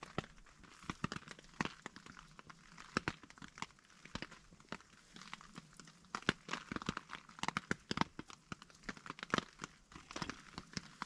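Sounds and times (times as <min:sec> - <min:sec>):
light rain pattering on a tarp: 0:00.0 - 0:11.0.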